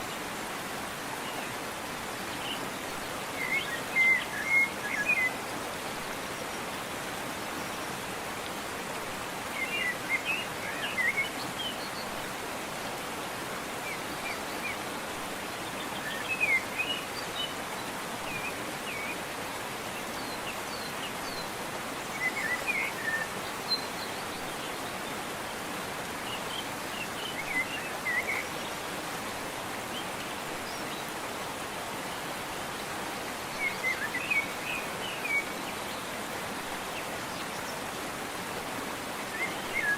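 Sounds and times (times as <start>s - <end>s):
songbirds chirping: 0.0s - 39.9s
waterfall rushing: 0.0s - 39.9s.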